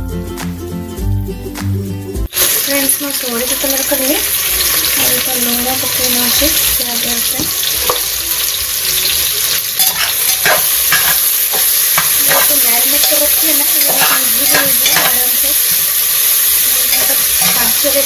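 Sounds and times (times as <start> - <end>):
onions sizzling in a pot: 2.3 - 18.0.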